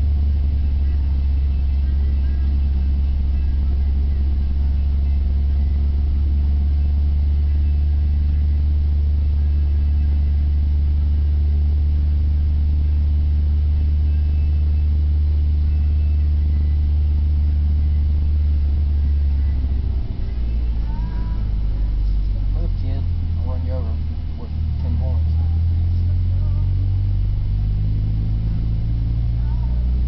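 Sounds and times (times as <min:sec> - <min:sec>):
deep car exhaust drone: 0:00.0 - 0:30.0.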